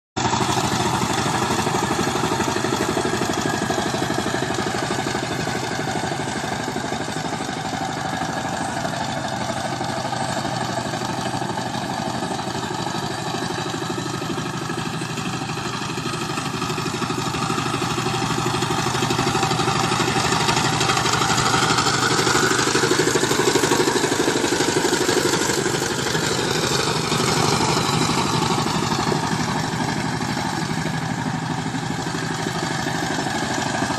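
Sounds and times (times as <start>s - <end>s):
farm machine engine running: 0.2s - 33.9s.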